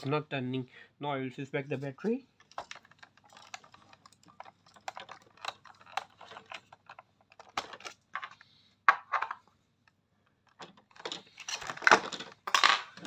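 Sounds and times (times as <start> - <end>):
plastic clicks and rattles: 2.4 - 13.0.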